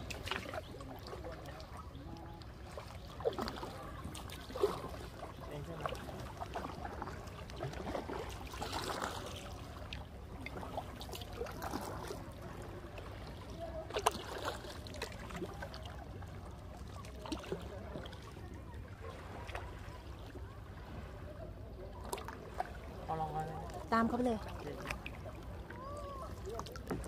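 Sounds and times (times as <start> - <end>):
paddles dipping into water: 0.0 - 27.0
water splashing and trickling: 0.0 - 27.0.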